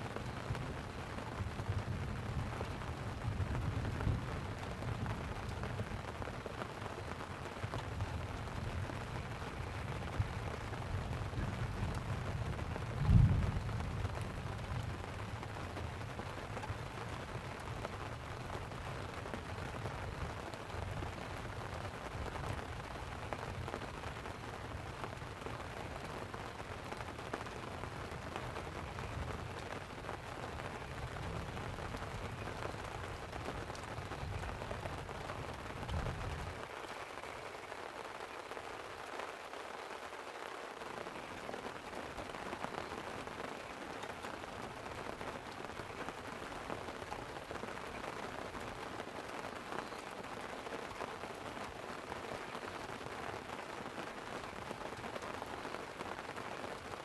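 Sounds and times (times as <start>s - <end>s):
rain on a tent: 0.0s - 57.0s.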